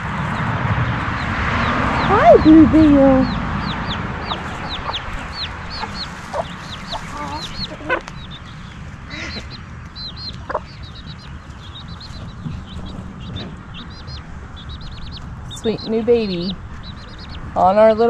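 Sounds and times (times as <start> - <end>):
chick peeping: 0.0 - 18.0
hens clucking: 1.6 - 18.0.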